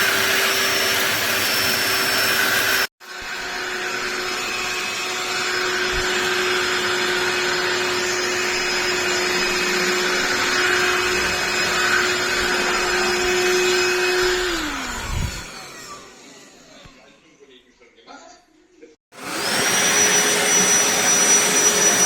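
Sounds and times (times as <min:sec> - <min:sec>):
cordless vacuum motor whine: 0:00.0 - 0:17.1, 0:19.2 - 0:22.0.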